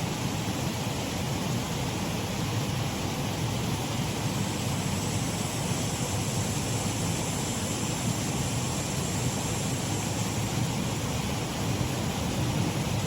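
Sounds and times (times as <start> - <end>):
water pouring and rushing: 0.0 - 13.0.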